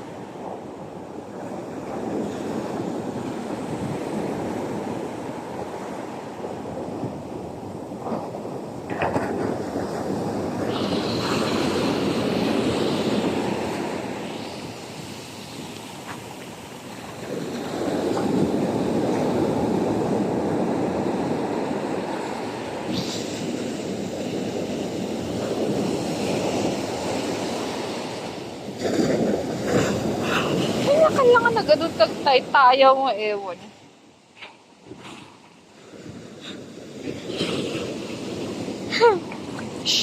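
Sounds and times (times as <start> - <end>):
waves breaking on shore: 0.0 - 40.0.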